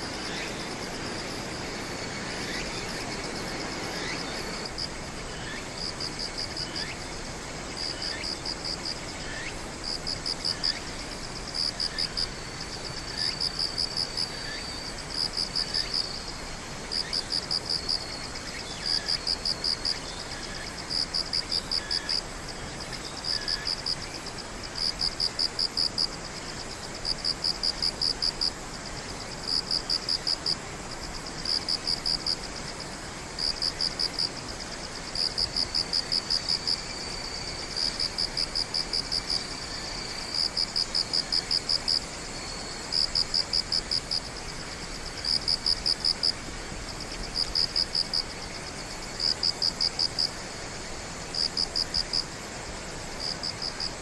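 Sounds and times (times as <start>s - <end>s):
background hiss: 0.0s - 54.0s
faint insect drone: 0.0s - 54.0s.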